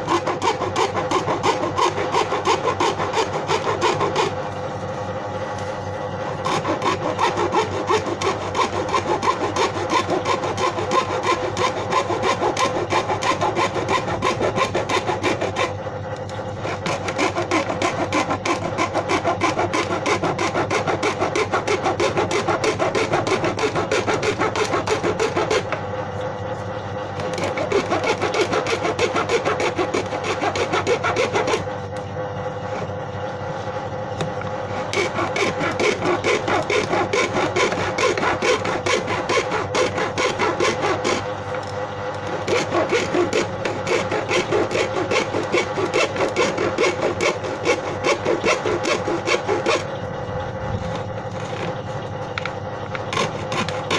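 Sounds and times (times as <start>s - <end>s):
hand saw cutting plastic: 0.0s - 4.4s, 6.4s - 25.8s, 27.2s - 31.8s, 34.7s - 50.0s, 50.9s - 53.9s.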